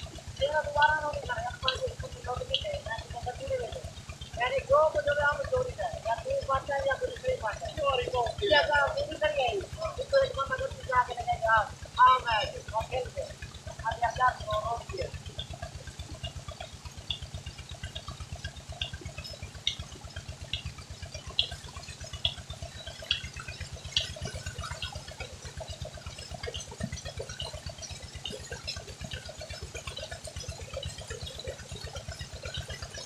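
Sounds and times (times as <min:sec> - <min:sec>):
pump engine chugging: 0:00.0 - 0:33.0.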